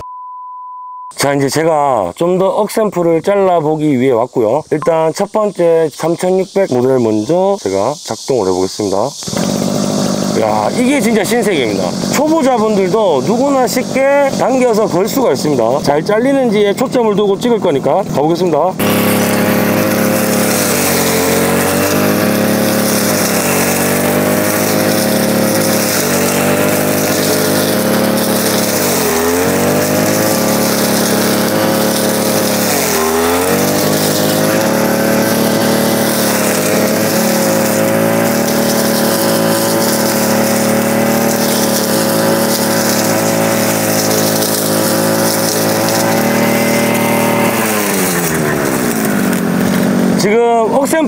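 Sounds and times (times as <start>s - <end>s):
blade cutting dense grass: 4.4s - 51.0s
brush cutter engine running: 4.8s - 51.0s.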